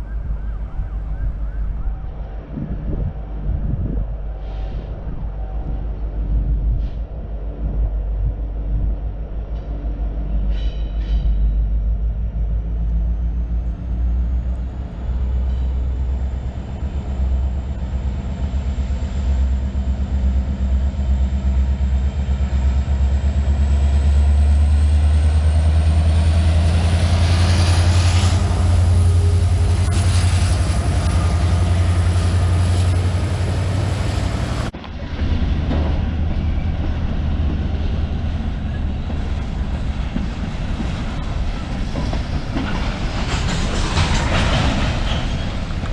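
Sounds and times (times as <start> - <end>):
diesel locomotive engine drone: 0.0 - 45.9
rumbling train noise: 0.0 - 45.9.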